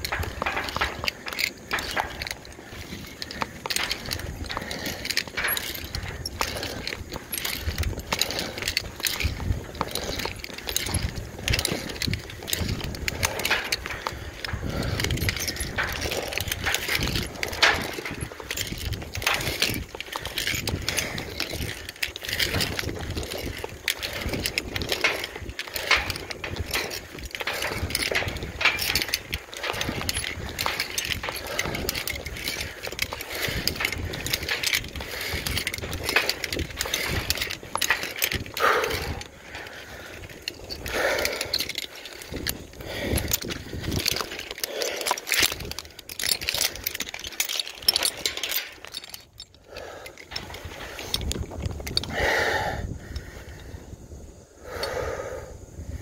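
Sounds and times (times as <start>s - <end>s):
metal climbing hardware clinking: 0.0s - 53.8s, 54.6s - 56.0s.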